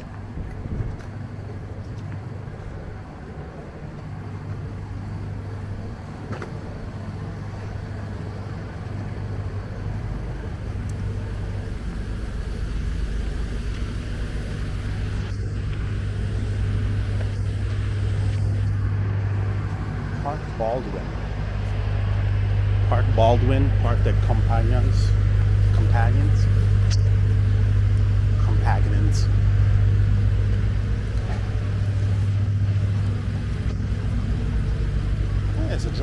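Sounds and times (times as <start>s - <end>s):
steady low street hum: 0.0s - 36.0s.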